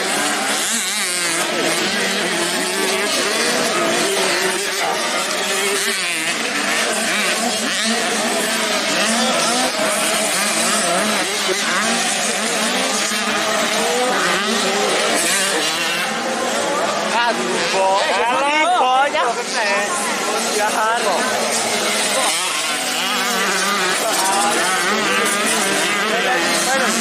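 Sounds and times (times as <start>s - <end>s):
racing motorcycles revving: 0.0s - 27.0s.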